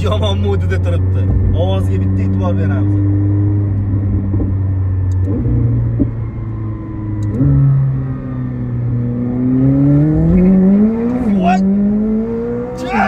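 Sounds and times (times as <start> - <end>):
car engine revving from inside cabin: 1.2 - 6.2, 7.2 - 13.0.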